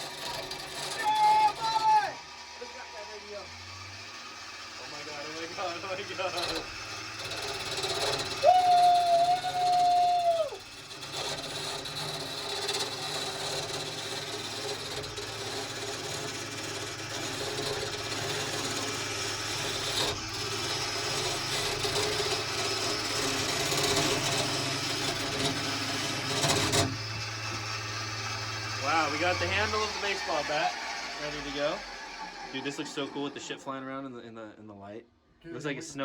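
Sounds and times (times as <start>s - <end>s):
turning tool scraping wood: 0.0s - 33.8s
lathe motor hum: 0.0s - 34.2s.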